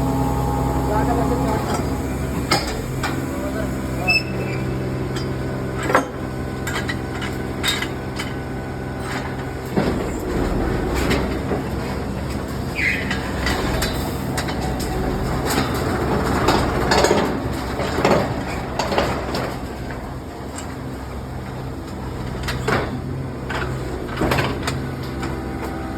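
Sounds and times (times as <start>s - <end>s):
engine running: 0.0s - 25.9s.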